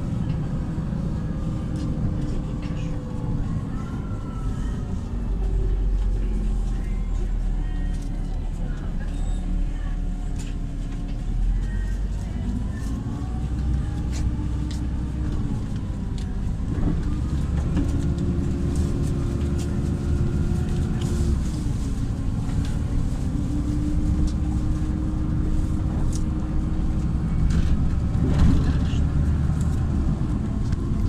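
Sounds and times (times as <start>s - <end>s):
bus engine rumble with whine: 0.0s - 31.0s
rattles and clicks from bus body: 0.0s - 31.0s.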